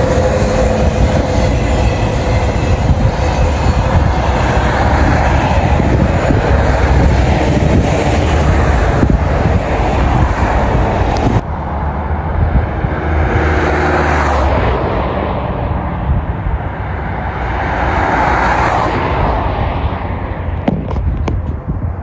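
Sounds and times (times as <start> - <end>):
cars passing: 0.0 - 22.0
wind rumble on microphone: 0.0 - 22.0.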